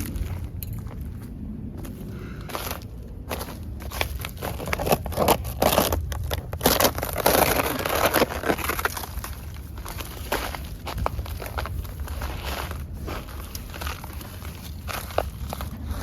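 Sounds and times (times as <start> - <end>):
crinkling rustle of garden material: 1.8 - 16.0.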